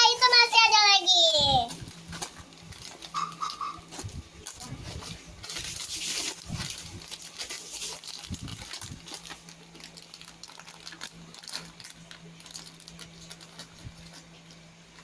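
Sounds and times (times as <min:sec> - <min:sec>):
faint steady hum: 0:00.0 - 0:15.0
plastic bag crinkling: 0:01.1 - 0:15.0.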